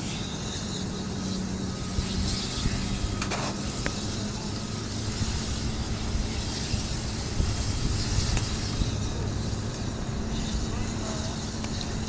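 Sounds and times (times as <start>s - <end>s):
fire engine humming: 0.0s - 12.0s
hissing water spray: 0.0s - 12.0s.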